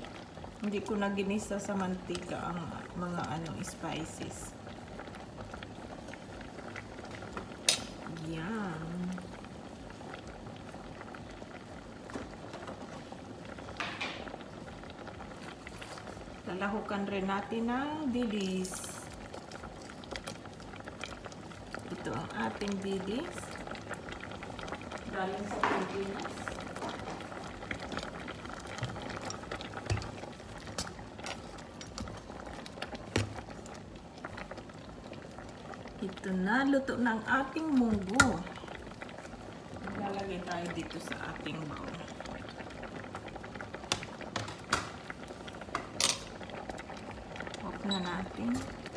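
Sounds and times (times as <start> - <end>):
soup simmering with bubbles popping: 0.0 - 48.9.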